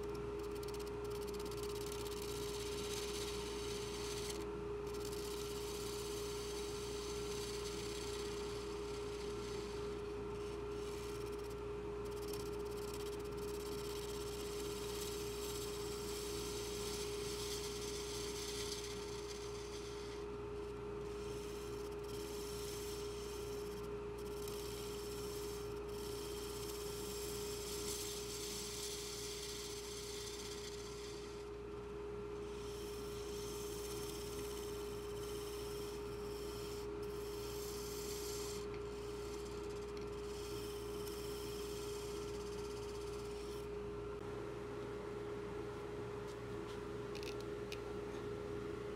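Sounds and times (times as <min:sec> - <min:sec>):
hissing rub on spinning wood: 0:00.6 - 0:20.3, 0:21.1 - 0:31.5, 0:32.5 - 0:43.7.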